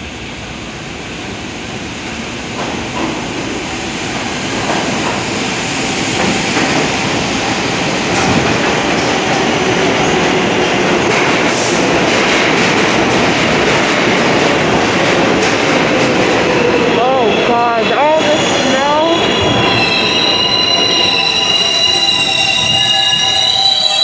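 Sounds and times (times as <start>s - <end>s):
subway train on rails: 0.0s - 24.0s.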